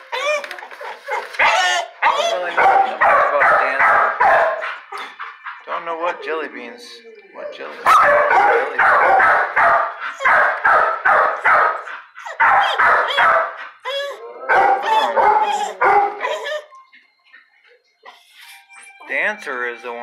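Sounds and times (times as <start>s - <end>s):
dogs barking: 0.7s - 18.0s.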